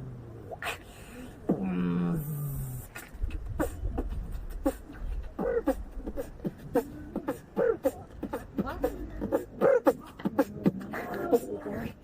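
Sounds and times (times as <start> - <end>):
man beatboxing: 1.5 - 12.0.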